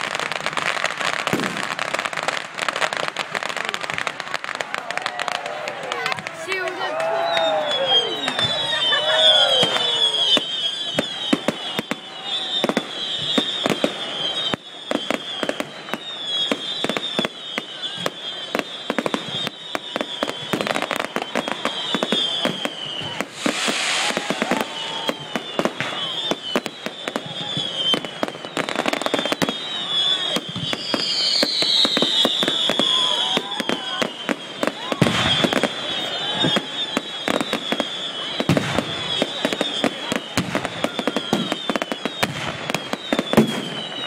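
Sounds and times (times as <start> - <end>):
fireworks crackling: 0.0 - 44.0
fireworks whistles falling in pitch: 0.0 - 44.0
hissing firework burst: 7.9 - 44.0.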